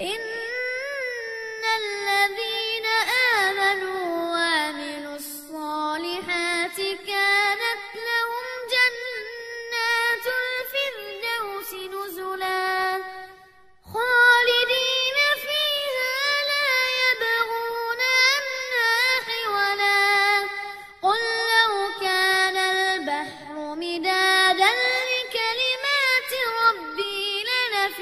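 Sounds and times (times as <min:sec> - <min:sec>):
child chanting recitation: 0:00.0 - 0:28.0.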